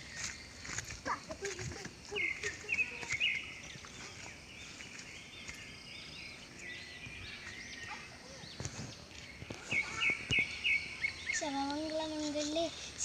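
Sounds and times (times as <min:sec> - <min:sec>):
birds chirping: 0:00.0 - 0:13.0
outdoor background noise: 0:00.0 - 0:13.0.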